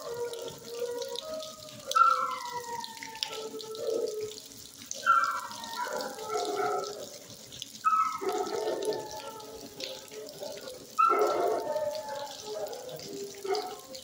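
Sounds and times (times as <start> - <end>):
dogs howling and yelping: 0.0 - 14.0.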